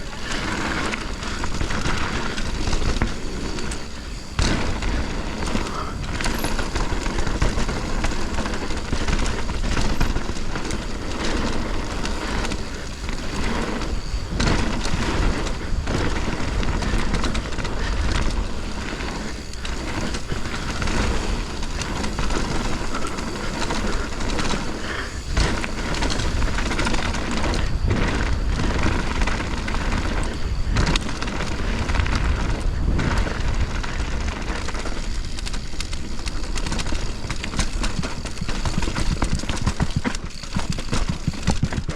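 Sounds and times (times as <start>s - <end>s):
bike knocking and rattling: 0.0s - 41.9s
wind and tyre rush: 0.0s - 41.9s.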